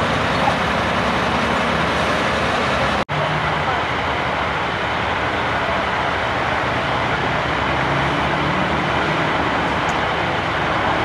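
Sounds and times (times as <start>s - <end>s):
freeway traffic: 0.0s - 11.0s
low engine hum: 0.0s - 11.0s.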